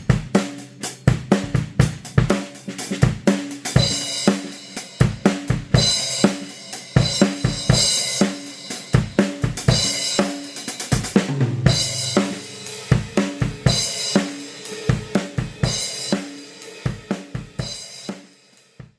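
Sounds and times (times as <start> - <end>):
tom fill: 0.0 - 18.2
cymbals: 0.0 - 18.8
drum kit groove: 0.0 - 18.9.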